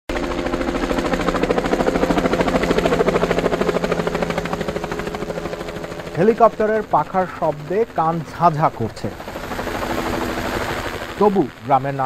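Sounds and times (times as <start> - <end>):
helicopter engine hum: 0.1 - 12.0
helicopter rotor chop: 0.1 - 12.0.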